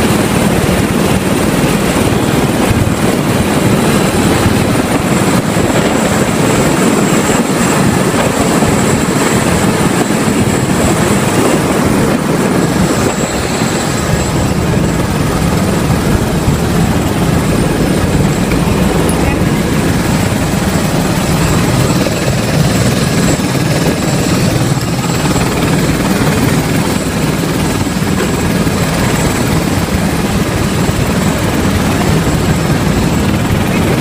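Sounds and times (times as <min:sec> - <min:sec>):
helicopter roar: 0:00.0 - 0:34.0
high turbine whine: 0:00.0 - 0:34.0.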